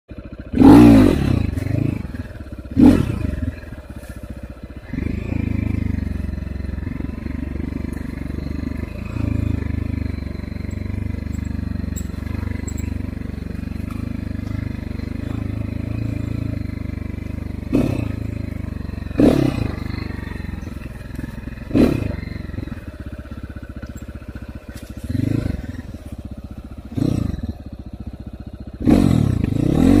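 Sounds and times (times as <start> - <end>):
dirt bike engine revving: 0.2 - 30.0.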